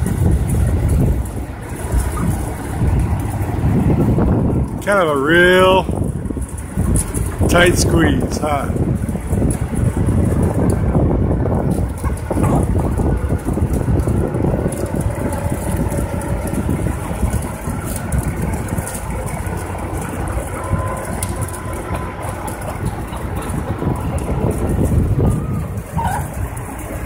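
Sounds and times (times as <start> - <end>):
truck engine idling: 0.0 - 27.0
wind buffeting microphone: 0.0 - 27.0.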